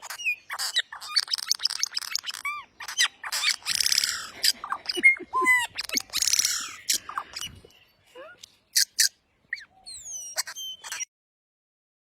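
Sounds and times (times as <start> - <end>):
bird whistling: 0.0 - 7.6, 8.8 - 11.1
bird chirping and clicking: 0.0 - 11.1
bird squawking: 0.0 - 11.1.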